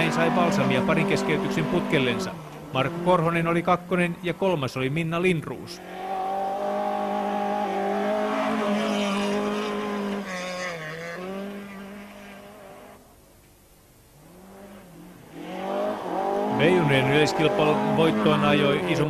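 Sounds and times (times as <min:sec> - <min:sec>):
rally car engine passing: 0:00.0 - 0:04.0, 0:05.8 - 0:13.0, 0:14.2 - 0:19.0.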